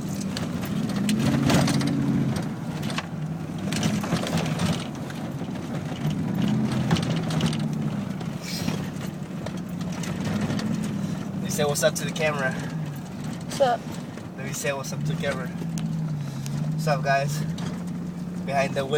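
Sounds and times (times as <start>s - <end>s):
car engine and tyre noise: 0.0s - 18.9s.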